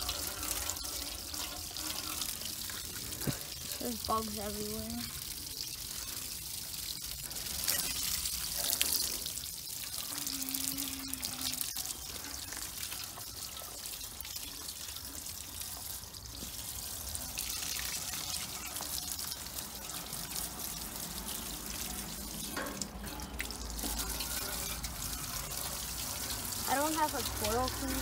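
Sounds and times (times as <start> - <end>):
hose water spraying on metal fins: 0.0 - 28.0.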